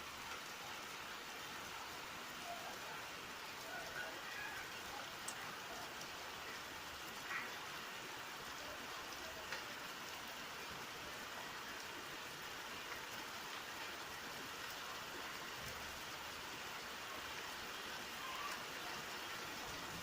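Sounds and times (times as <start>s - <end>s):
steady rainfall: 0.0s - 20.0s.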